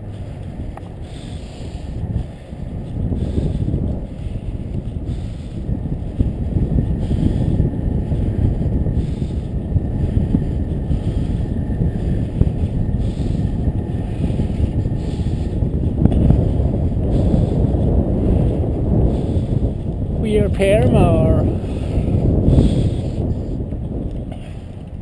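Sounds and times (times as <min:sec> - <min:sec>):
bicycle rolling rumble: 0:00.0 - 0:25.0
wind buffeting microphone: 0:00.0 - 0:25.0.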